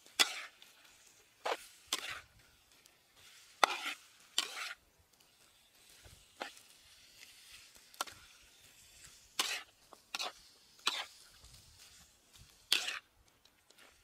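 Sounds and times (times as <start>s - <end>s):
metal spatula scraping a wok: 0.0s - 13.1s.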